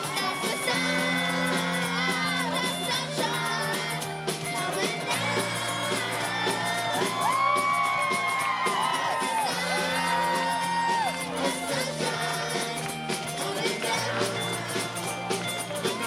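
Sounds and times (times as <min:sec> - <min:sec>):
live band playing pop song: 0:00.0 - 0:16.0
person singing lead vocals: 0:00.0 - 0:16.0.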